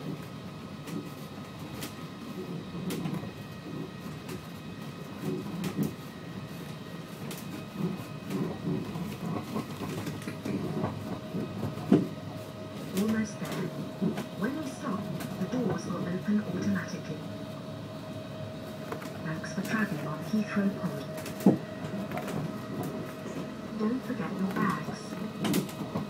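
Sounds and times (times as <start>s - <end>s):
faint multi-tone hum: 0.1s - 26.0s.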